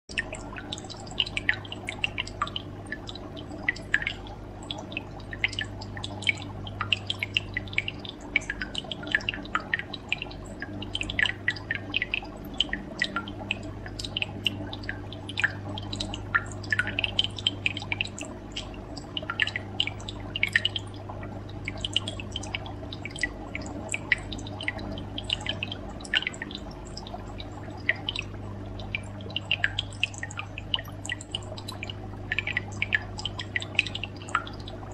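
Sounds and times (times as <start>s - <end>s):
aquarium water dripping and bubbling: 0.0s - 34.9s
steady low hum: 0.1s - 34.9s.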